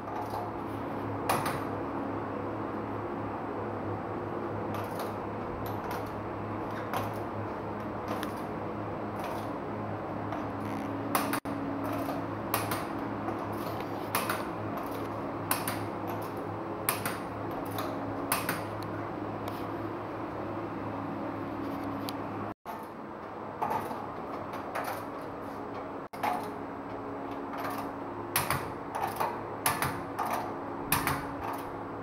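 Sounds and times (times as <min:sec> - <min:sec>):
workshop machinery hum: 0:00.0 - 0:32.0.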